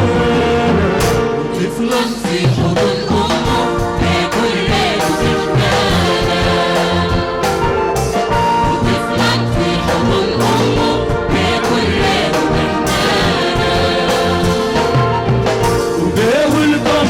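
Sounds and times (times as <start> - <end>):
brass-like held chords: 0.0 - 17.0
steady drum beat: 0.0 - 17.0.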